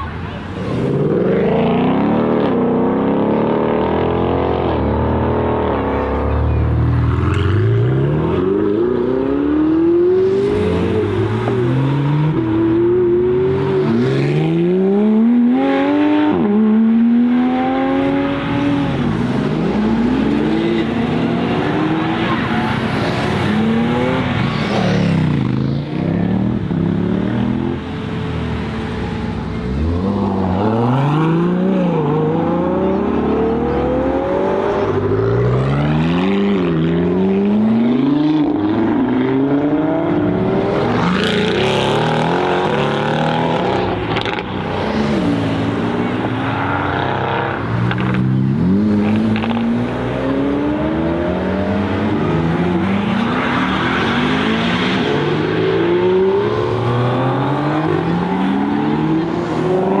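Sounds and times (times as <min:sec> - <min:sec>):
cars passing by: 0:00.0 - 1:00.0
sports car engines accelerating: 0:00.0 - 1:00.0.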